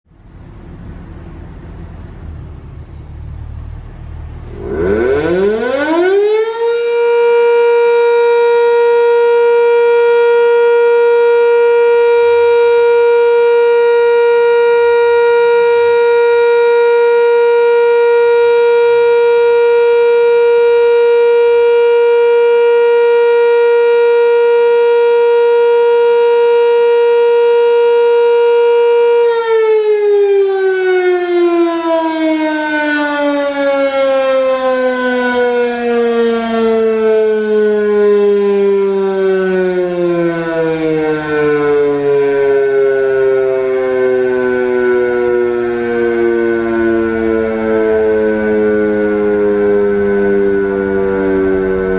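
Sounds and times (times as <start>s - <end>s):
outdoor warning siren: 0.0s - 51.9s.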